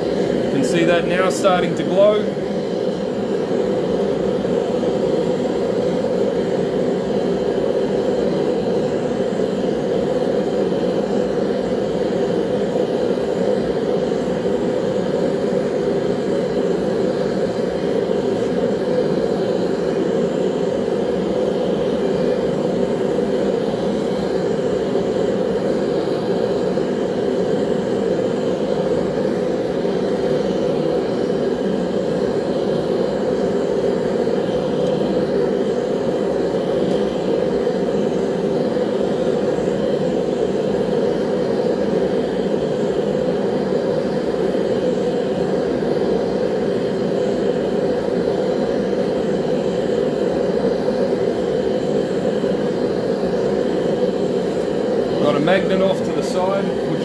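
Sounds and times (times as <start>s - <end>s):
gas burner flame roaring: 0.0s - 57.0s.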